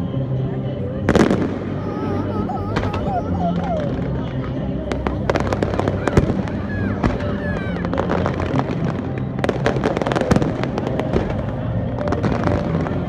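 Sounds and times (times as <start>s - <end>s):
fireworks cracking and banging: 1.1s - 13.0s.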